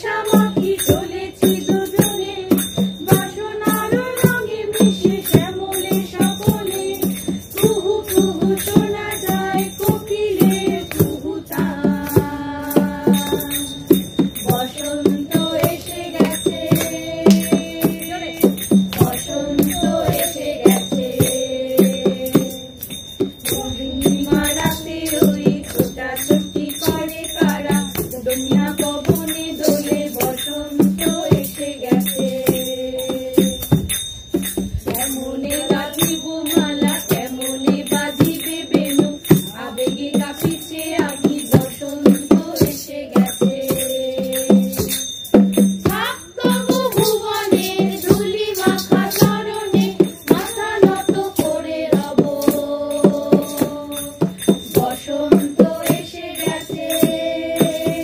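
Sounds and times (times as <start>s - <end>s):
hand drum beat: 0.0s - 58.0s
jingling percussion: 0.0s - 58.0s.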